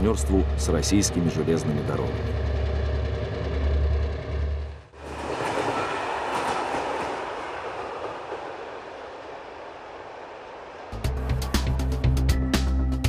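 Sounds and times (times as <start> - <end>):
train rolling on rails: 0.0 - 12.7
diesel locomotive engine humming: 0.0 - 13.0.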